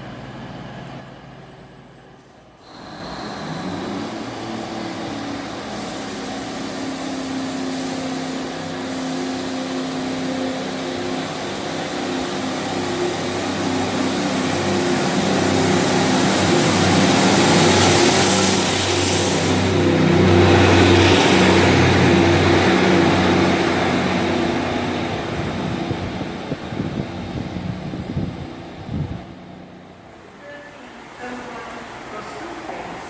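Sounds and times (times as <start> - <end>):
diesel train engine running: 0.0 - 33.0.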